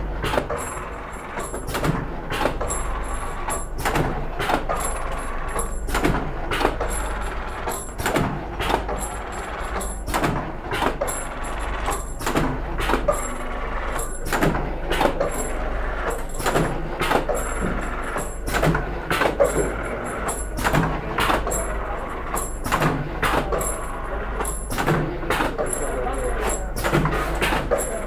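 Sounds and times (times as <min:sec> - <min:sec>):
packing machine motor hum: 0:00.0 - 0:28.0
machine mechanism clacking: 0:00.2 - 0:28.0.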